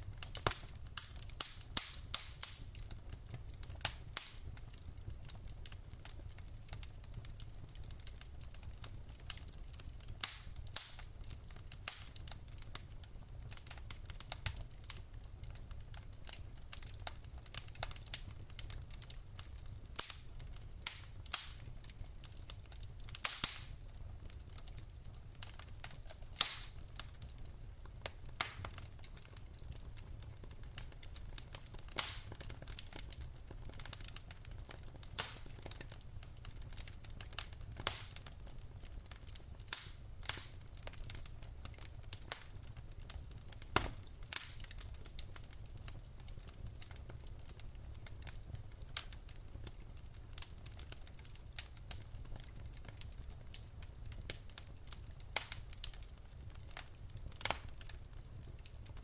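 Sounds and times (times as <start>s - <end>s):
burning logs popping: 0.0s - 59.0s
low rumble of flames: 0.0s - 59.0s.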